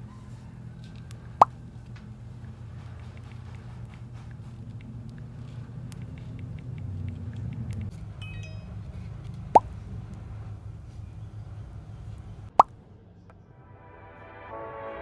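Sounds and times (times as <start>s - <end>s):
light clicks: 0.0s - 12.6s.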